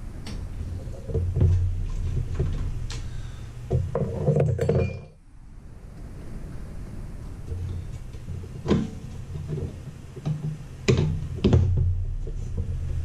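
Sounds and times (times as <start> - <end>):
low handling bumps: 0.0 - 5.2, 6.0 - 13.0.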